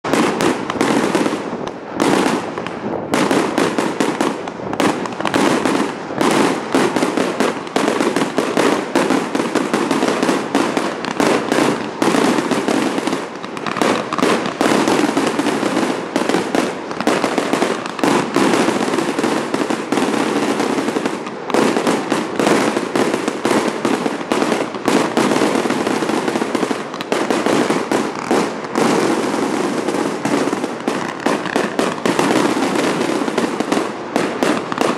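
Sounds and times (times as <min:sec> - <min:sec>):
fireworks bursting and crackling: 0:00.0 - 0:34.9.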